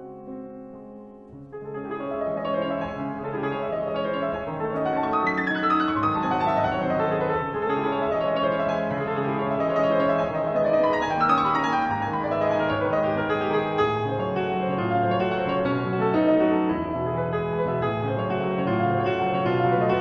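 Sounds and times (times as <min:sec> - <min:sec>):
grand piano classical solo: 0:00.0 - 0:20.0.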